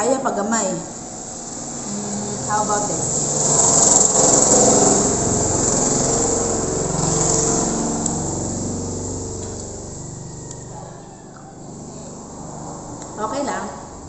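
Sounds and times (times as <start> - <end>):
small engine running: 0.8 - 14.0.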